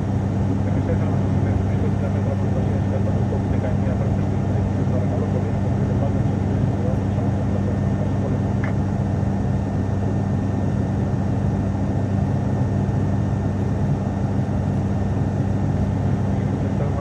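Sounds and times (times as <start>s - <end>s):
turboprop engine and propeller hum: 0.0s - 17.0s.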